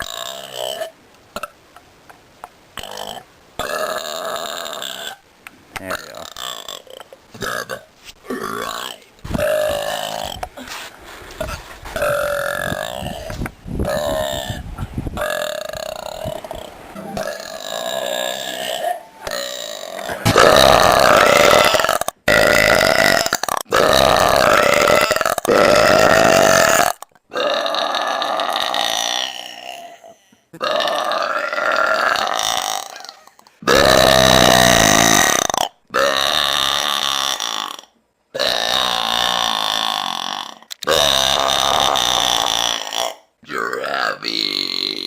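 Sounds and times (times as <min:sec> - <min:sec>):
woman belching loudly: 0:02.8 - 0:05.1, 0:06.2 - 0:10.5, 0:12.0 - 0:14.6, 0:15.2 - 0:30.0, 0:30.6 - 0:45.0.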